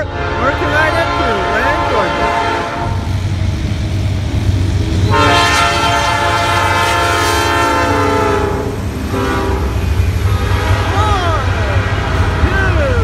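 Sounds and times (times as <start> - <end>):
locomotive air horn: 0.0 - 3.0, 5.1 - 12.6
diesel locomotive rumble: 0.0 - 13.0.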